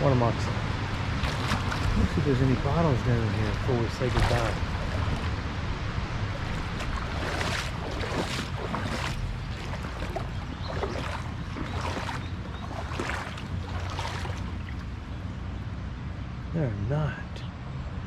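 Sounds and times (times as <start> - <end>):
wind on microphone: 0.0 - 15.1
moving water rumble: 0.0 - 15.8
footsteps sloshing through water: 0.8 - 15.4.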